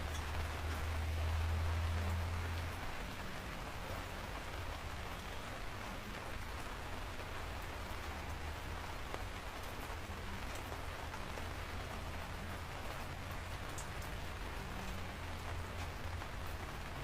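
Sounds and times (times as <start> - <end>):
raindrops ticking: 0.0 - 17.0
steady rain hiss: 0.0 - 17.0.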